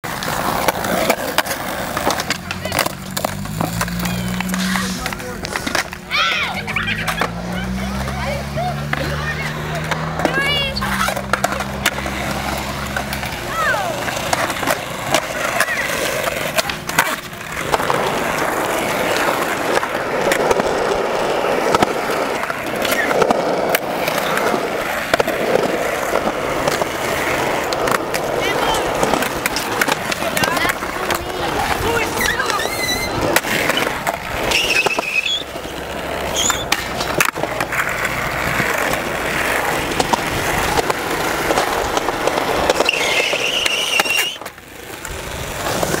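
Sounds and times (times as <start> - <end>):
skateboard clacks: 0.0 - 46.0
skateboard wheels rolling on concrete: 0.0 - 46.0.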